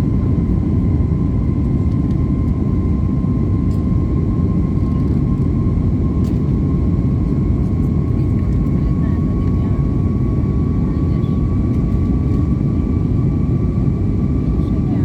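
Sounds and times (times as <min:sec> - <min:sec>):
jet engine low rumble: 0:00.0 - 0:15.0.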